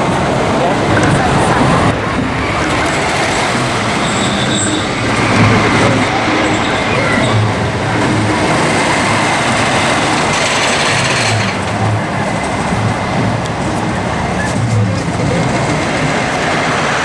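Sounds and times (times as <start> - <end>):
roller coaster wheels rumbling on rails: 0.0 - 17.0.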